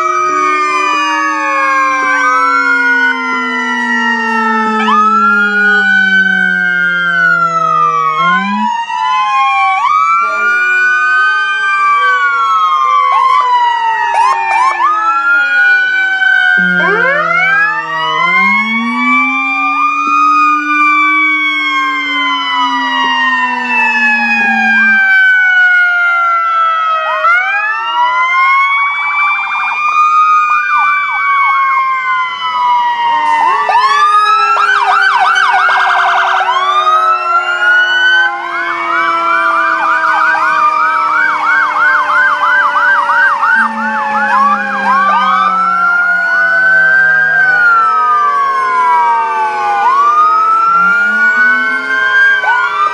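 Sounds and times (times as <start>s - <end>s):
deep siren winding up: 0.0s - 29.4s, 30.1s - 52.9s
emergency sirens wailing: 0.0s - 52.9s.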